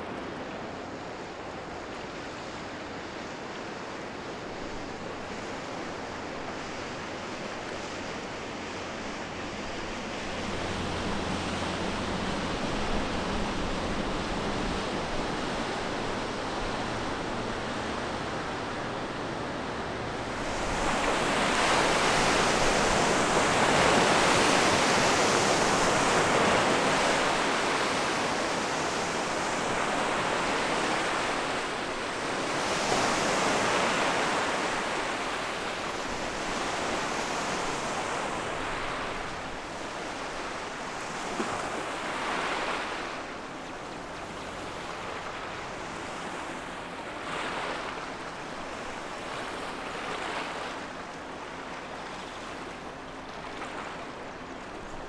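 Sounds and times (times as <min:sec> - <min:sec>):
waves from ship wake: 0:00.0 - 0:55.0.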